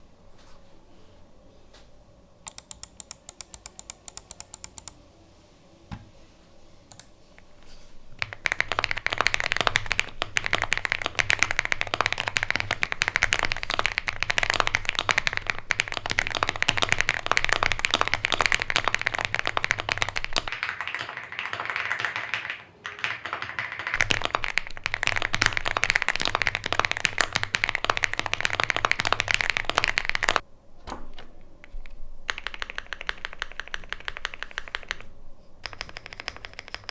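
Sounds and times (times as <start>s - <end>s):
typing on mechanical keyboard: 2.4s - 5.0s, 8.2s - 30.4s, 31.1s - 36.9s.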